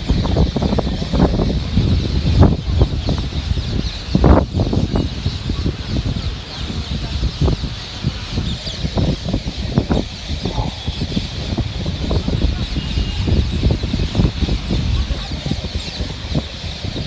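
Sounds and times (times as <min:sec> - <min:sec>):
parrots chattering and screeching: 0:00.0 - 0:17.0.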